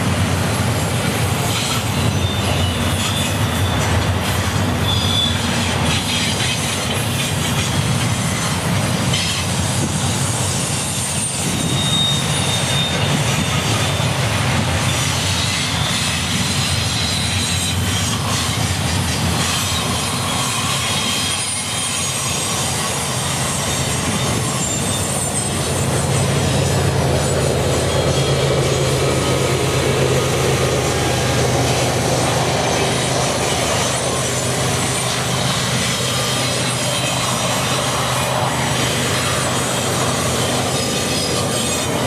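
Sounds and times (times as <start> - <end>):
high wheel squeals: 0.0 - 42.0
train wheels rumbling on rail: 0.0 - 42.0.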